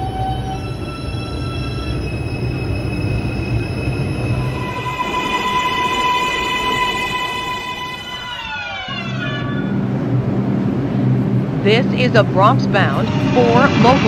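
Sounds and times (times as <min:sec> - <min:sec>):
train electric motor whining: 0:00.0 - 0:12.0.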